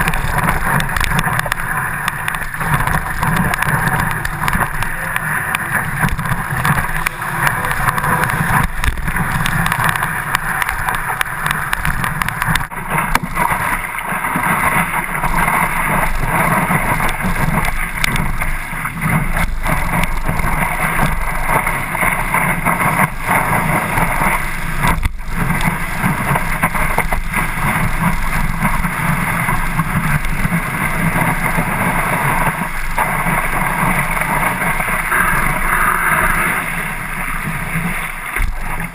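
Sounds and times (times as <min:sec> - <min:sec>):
water rushing and spraying: 0:00.0 - 0:38.9
wind buffeting microphone: 0:00.0 - 0:38.9.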